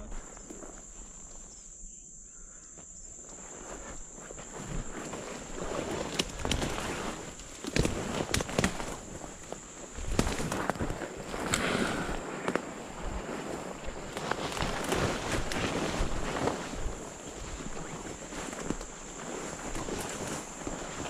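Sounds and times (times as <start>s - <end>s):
footsteps through weeds: 3.2s - 21.0s
weed stems brushing and snapping: 3.2s - 21.0s.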